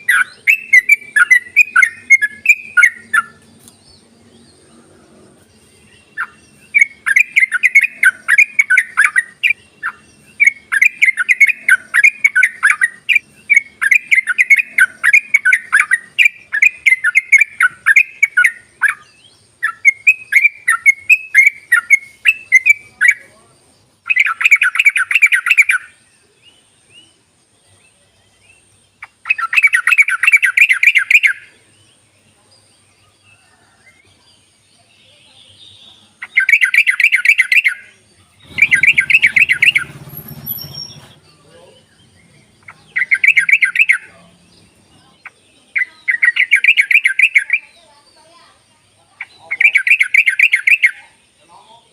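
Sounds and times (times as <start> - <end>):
bird chattering song: 0.0 - 51.9.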